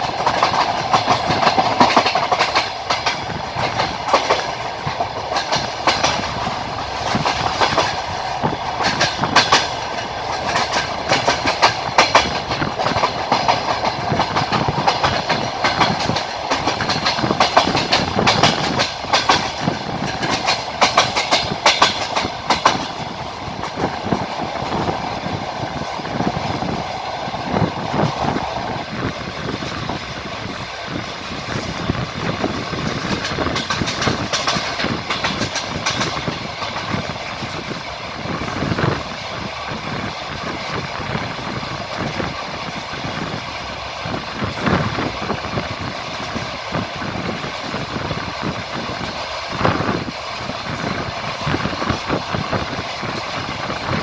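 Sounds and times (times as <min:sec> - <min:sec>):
train rolling rumble: 0:00.0 - 0:54.0
train wheel clicks: 0:00.0 - 0:54.0.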